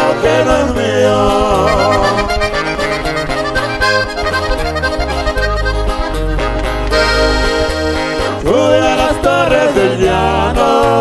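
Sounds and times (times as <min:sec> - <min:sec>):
accordion fast run: 0:00.0 - 0:11.0
steady bass line: 0:00.0 - 0:11.0
strummed guitar: 0:00.0 - 0:11.0.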